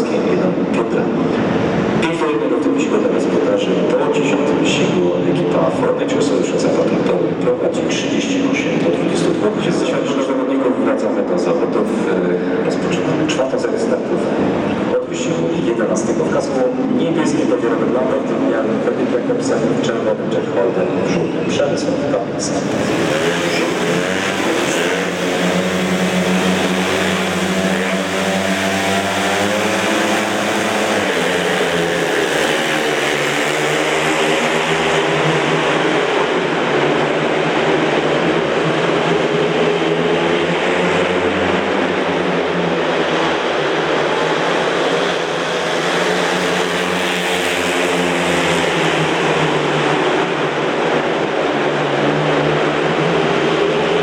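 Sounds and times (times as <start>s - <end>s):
racing motorcycle engines droning: 0.0s - 54.0s.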